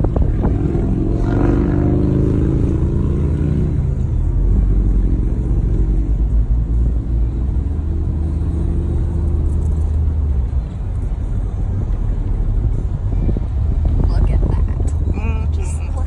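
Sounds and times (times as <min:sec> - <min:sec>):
car engine drone: 0:00.0 - 0:16.0.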